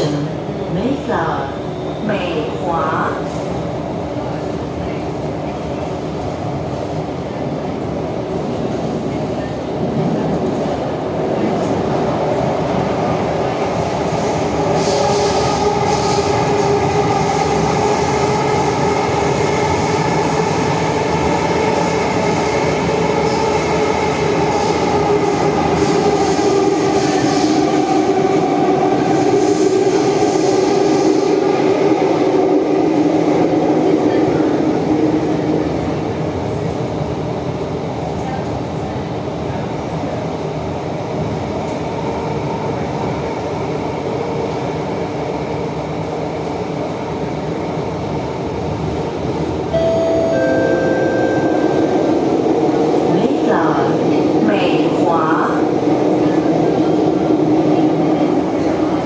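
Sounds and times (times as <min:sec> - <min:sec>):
train wheel and rail noise: 0:00.0 - 0:59.0.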